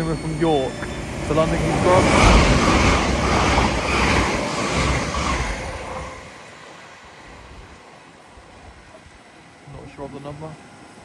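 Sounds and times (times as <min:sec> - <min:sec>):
express train passing at speed: 0:00.0 - 0:11.0.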